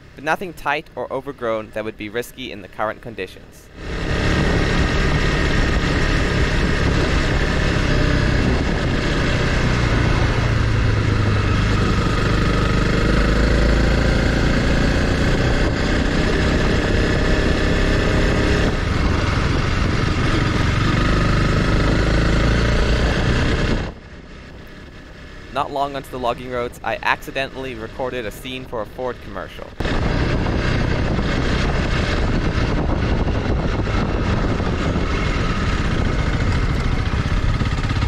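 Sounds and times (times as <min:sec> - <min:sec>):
motorcycle engine revving: 0:03.6 - 0:38.0.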